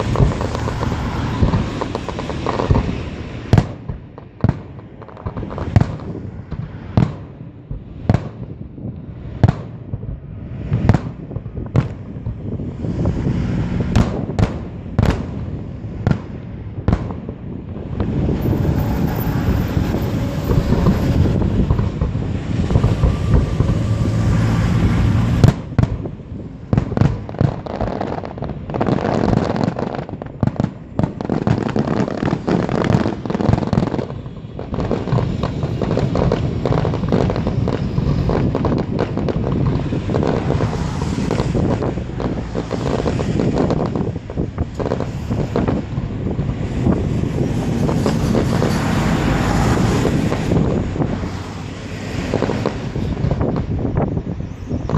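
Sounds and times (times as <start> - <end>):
crackling rumbling firework barrages: 0.0 - 54.9
firework bangs: 0.0 - 54.9.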